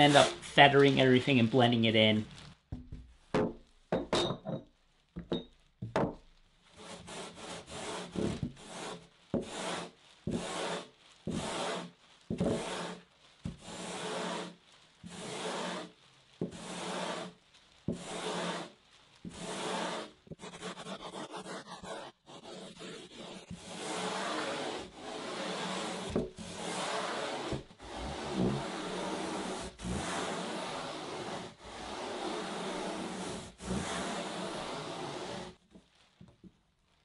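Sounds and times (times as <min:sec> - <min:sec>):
sandpaper rasping on foam: 0:00.0 - 0:01.9, 0:06.7 - 0:35.6.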